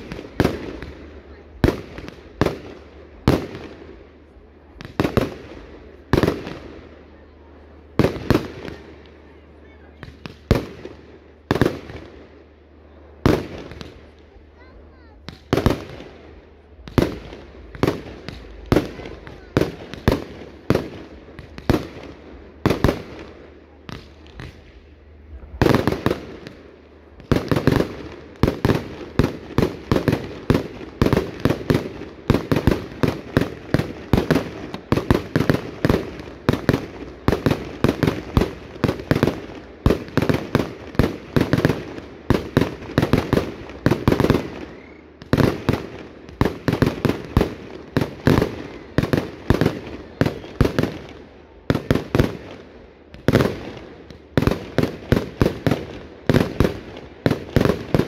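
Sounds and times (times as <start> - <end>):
fireworks banging: 0.0 - 12.6, 13.2 - 58.0.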